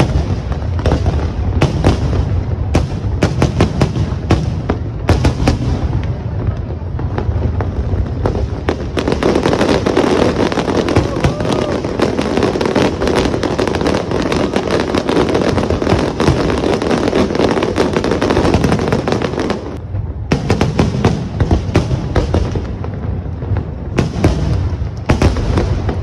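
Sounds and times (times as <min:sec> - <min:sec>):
fireworks crackling and booming: 0:00.0 - 0:26.0.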